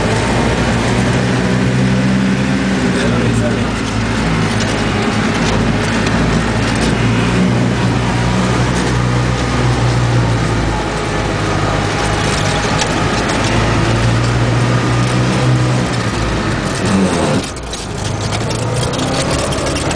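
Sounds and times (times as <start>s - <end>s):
knocks and rattles: 0.0s - 19.9s
road noise: 0.0s - 19.9s
van engine drone: 0.0s - 19.9s.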